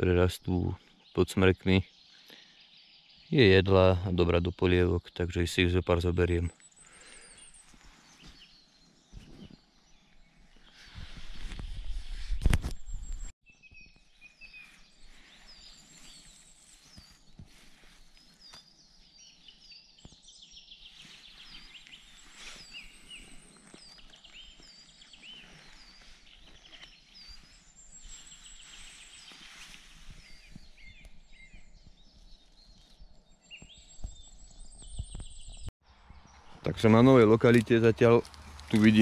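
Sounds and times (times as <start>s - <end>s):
songbirds chirping and trilling: 0.0s - 39.0s.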